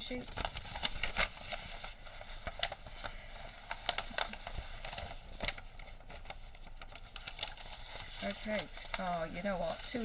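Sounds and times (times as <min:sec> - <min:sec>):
packaging and paper crackling: 0:00.0 - 0:10.0.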